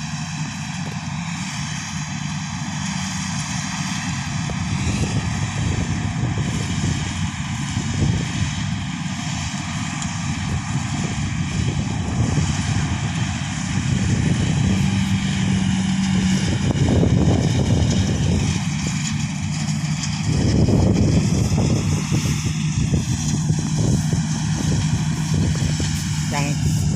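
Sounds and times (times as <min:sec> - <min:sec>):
combine harvester engine drone: 0:00.0 - 0:26.9
machinery whirring: 0:00.0 - 0:26.9.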